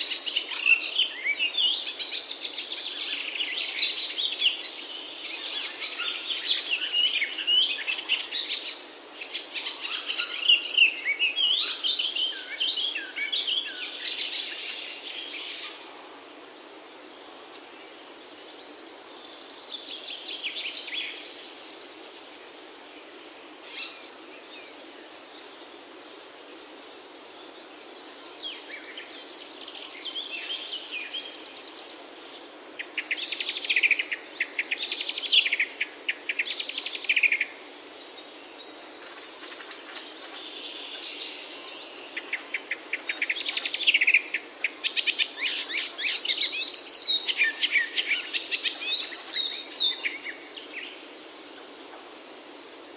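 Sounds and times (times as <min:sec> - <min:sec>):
songbirds chirping and trilling: 0:00.0 - 0:52.9
steady background hiss: 0:00.0 - 0:52.9.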